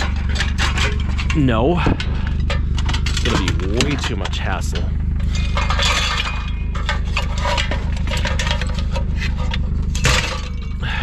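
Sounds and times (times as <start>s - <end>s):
scrap metal clinking and scraping: 0.0s - 11.0s.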